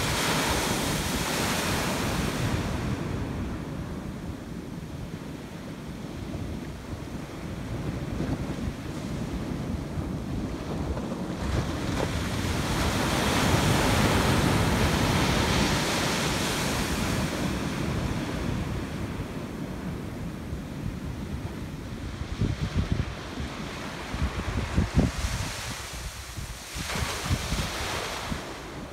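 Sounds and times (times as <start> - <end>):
surf washing up beach: 0.0 - 28.9
wind buffeting microphone: 0.0 - 28.9.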